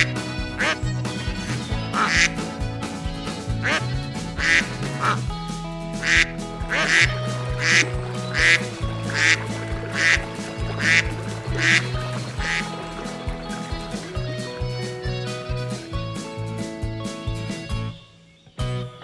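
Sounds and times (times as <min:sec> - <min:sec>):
duck quacks: 0:00.0 - 0:16.0
background music: 0:00.0 - 0:19.0.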